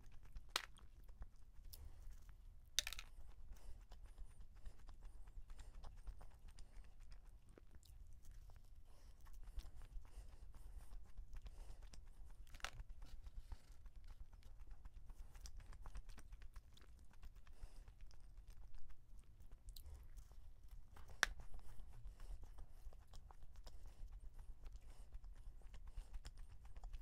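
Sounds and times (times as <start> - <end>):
close chewing of donut: 0.0 - 27.0.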